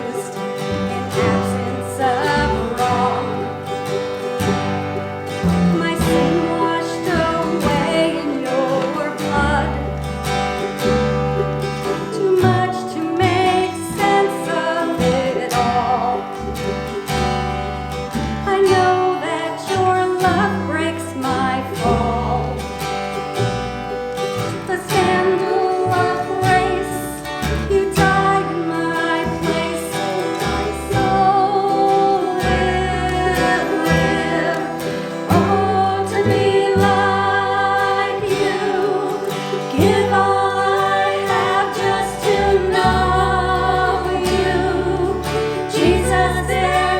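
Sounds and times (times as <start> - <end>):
group singing worship song: 0.0 - 10.6, 11.6 - 17.0, 24.7 - 46.9
plucked strings: 0.0 - 46.9.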